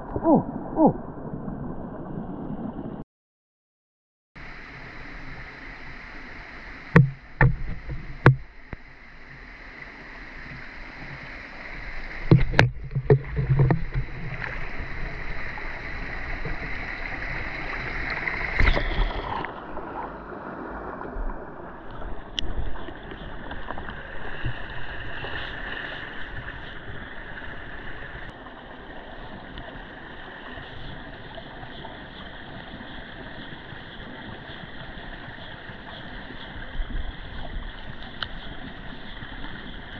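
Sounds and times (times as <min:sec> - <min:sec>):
stream rushing underwater: 0:00.0 - 0:03.0, 0:04.4 - 0:39.9.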